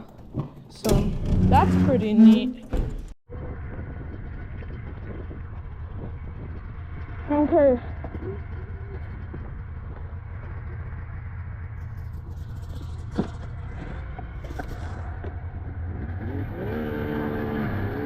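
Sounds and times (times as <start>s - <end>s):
snowmobile engine idling and revving: 3.3s - 18.0s.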